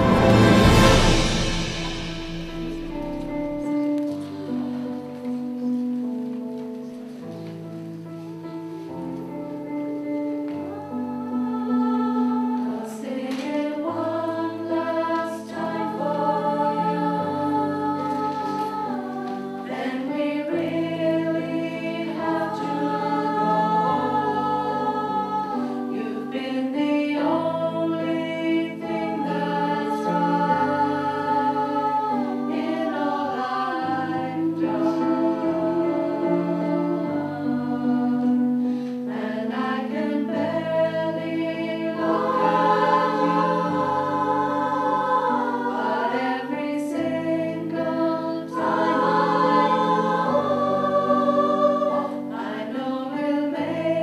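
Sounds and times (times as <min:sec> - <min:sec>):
women's choir singing: 0:00.0 - 0:05.8, 0:08.3 - 0:54.0
piano accompaniment: 0:00.0 - 0:54.0.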